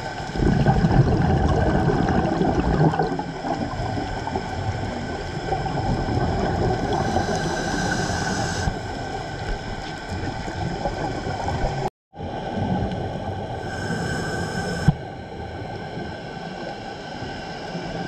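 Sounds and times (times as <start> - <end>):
underwater gurgling and bubbling: 0.0 - 18.0.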